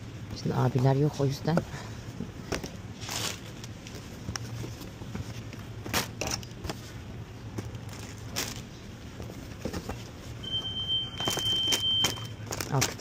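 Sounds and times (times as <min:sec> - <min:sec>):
steady low hum: 0:00.0 - 0:11.3
packaged goods clicking and rustling: 0:02.4 - 0:13.0.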